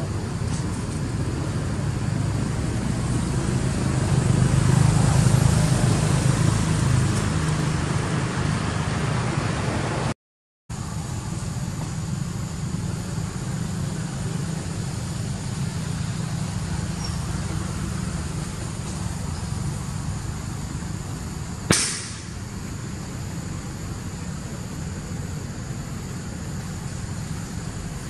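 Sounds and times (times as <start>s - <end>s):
steady low engine rumble: 0.0s - 28.0s.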